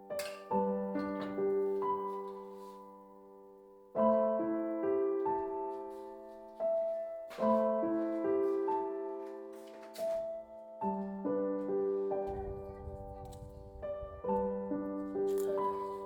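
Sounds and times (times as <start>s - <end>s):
soft solo piano: 0.0s - 16.0s.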